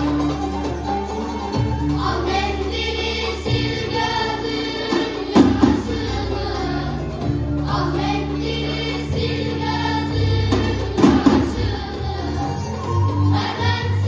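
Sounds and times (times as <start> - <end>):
choir singing folk song: 0.0 - 14.0
folk ensemble playing: 0.0 - 14.0
loud drum beats: 0.0 - 14.0.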